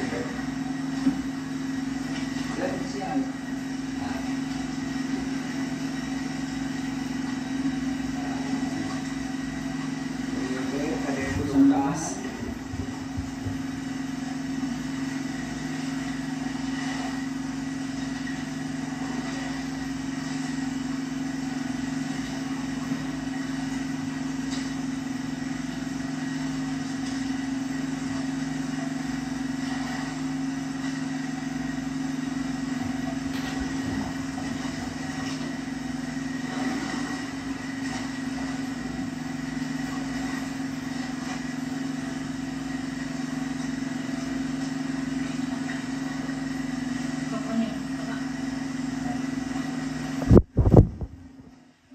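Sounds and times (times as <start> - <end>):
boat engine droning: 0.0 - 50.4.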